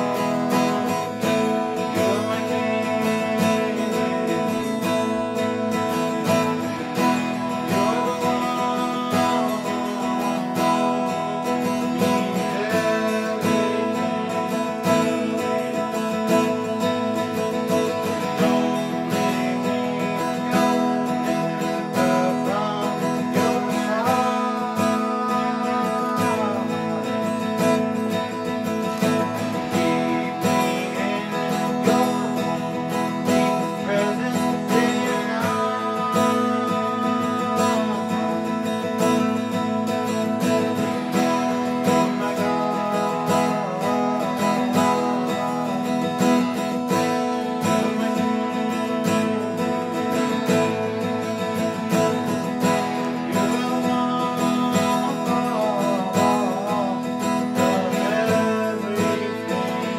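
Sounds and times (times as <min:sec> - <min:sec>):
electric guitar: 0:00.0 - 0:59.9
strummed acoustic guitar: 0:00.0 - 0:59.9.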